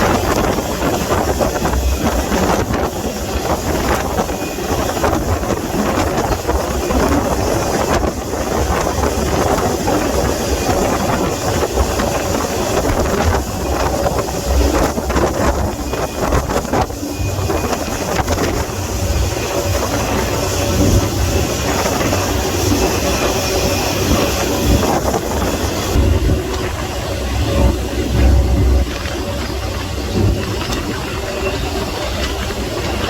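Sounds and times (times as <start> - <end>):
train rumble and rattle: 0.0 - 33.0
wind buffeting microphone: 0.0 - 33.0.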